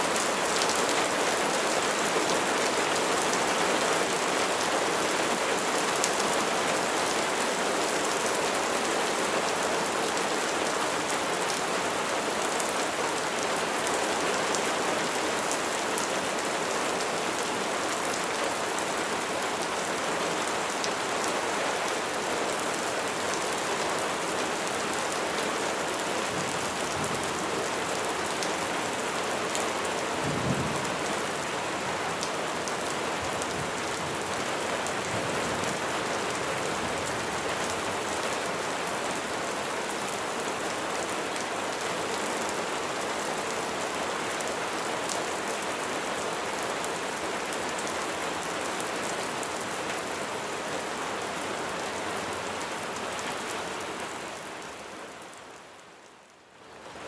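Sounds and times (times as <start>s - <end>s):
heavy rain on a surface: 0.0s - 57.0s.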